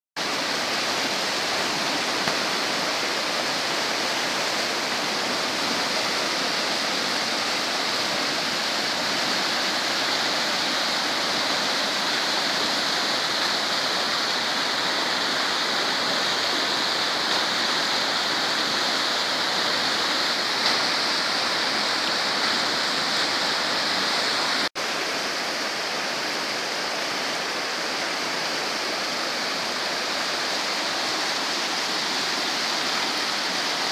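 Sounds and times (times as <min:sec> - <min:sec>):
water rushing through rapids: 0:00.2 - 0:33.9.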